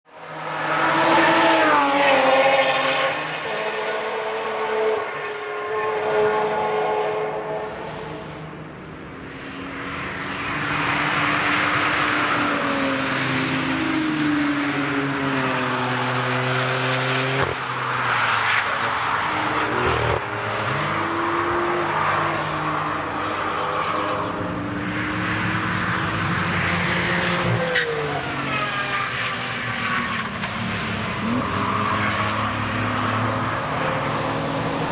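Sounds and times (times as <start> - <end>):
cars passing: 0.1 - 34.9.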